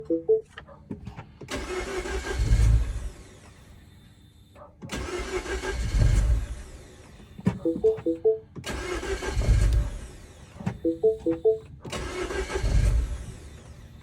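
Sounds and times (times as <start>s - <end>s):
car engine cranking: 0.4s - 3.8s, 4.8s - 14.0s.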